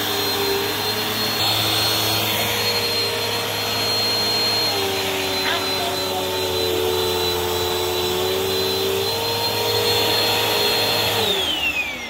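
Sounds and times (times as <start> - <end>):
motor winding down: 0.0 - 12.0
vacuum cleaner whining: 0.0 - 12.0.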